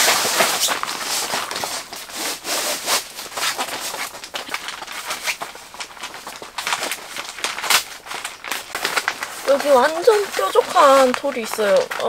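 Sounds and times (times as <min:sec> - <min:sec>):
foil mat rustling and crinkling: 0:00.0 - 0:12.0.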